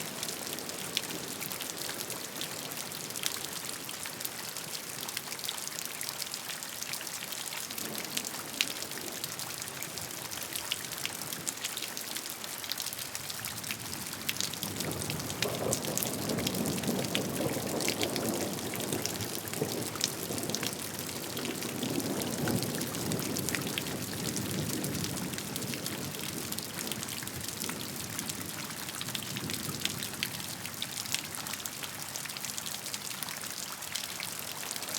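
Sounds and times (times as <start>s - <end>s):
rain drops striking a surface: 0.0s - 34.9s.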